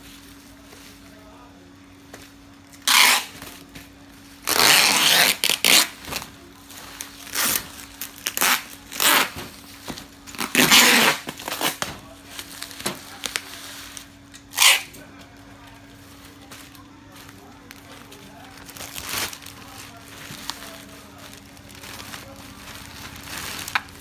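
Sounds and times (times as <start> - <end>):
bubble wrap crinkling: 2.3 - 24.0.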